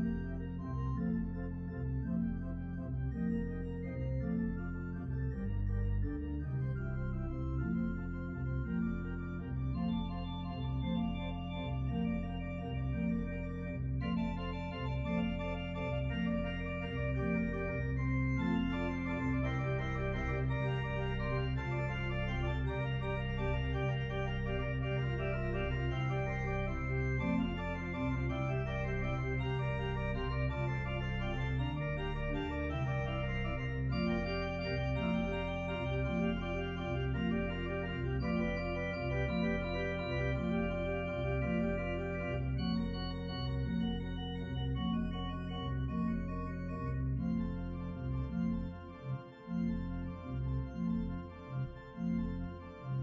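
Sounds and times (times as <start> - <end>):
organ playing slow chords: 0.0 - 53.0.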